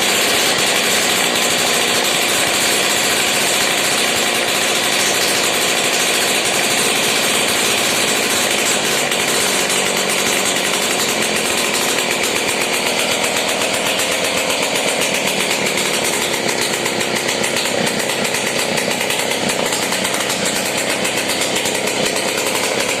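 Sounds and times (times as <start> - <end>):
moped engine buzzing: 0.0 - 23.0.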